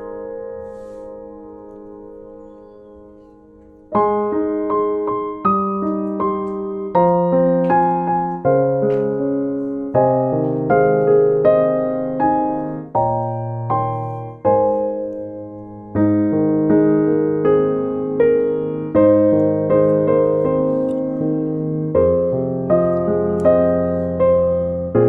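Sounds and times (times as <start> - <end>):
gentle piano chords: 0.0 - 25.0.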